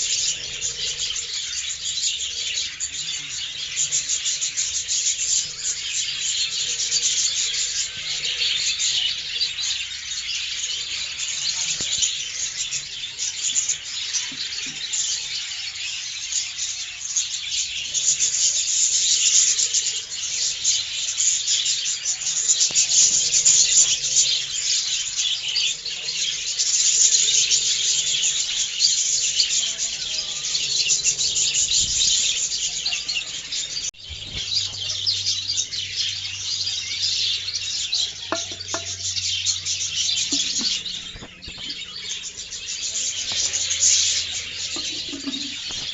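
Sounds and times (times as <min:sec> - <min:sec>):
budgerigars chattering: 0:00.0 - 0:45.9.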